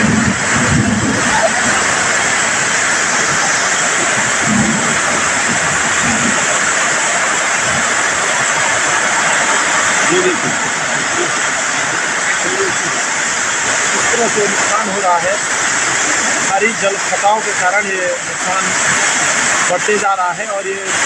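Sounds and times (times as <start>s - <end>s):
heavy rain: 0.0s - 21.0s
muddy water rushing: 0.0s - 21.0s.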